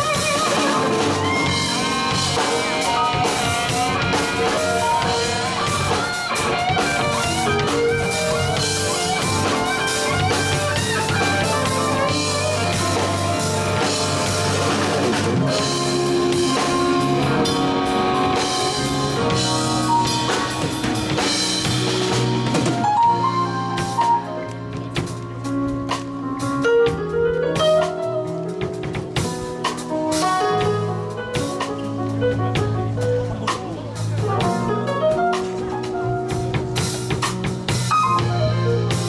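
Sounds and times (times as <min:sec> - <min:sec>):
bass guitar: 0:00.0 - 0:39.0
drum kit: 0:00.0 - 0:39.0
electric guitar lead line: 0:00.0 - 0:39.0.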